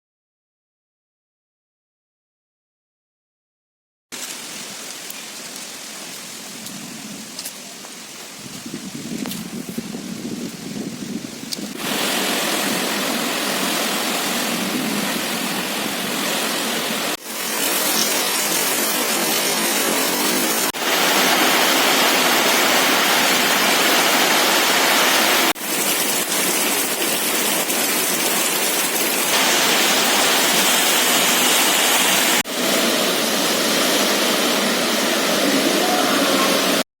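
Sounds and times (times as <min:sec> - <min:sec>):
rain and wind hiss: 0:04.2 - 0:36.8.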